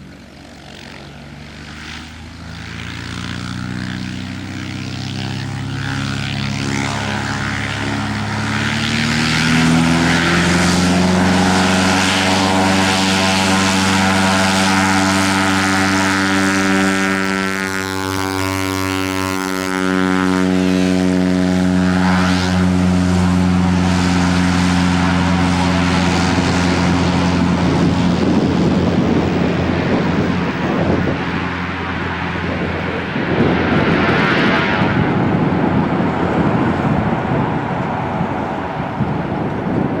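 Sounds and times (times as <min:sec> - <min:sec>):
propeller aircraft engine drone: 0:00.0 - 0:40.0.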